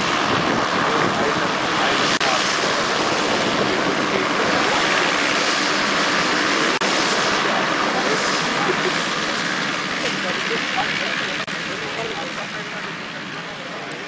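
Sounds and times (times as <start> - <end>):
turboprop plane engines roaring: 0.0 - 14.0.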